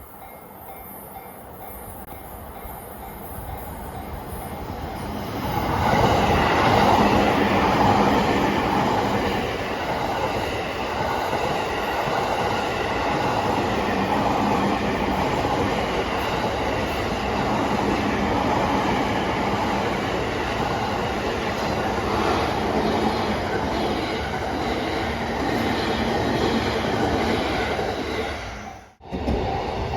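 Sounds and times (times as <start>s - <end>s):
train passing on rails: 0.0s - 29.9s.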